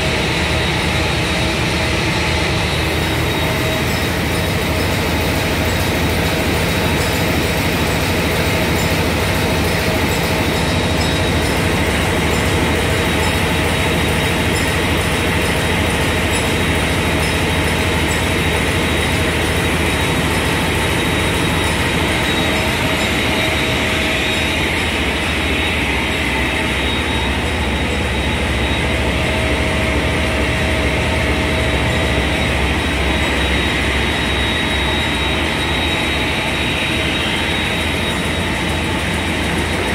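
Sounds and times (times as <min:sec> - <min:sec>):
diesel engine running with high whine: 0:00.0 - 0:39.9.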